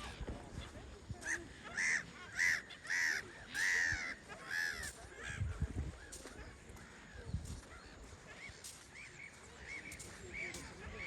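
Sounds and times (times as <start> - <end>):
seabirds calling: 0.0 - 5.4, 6.0 - 11.0.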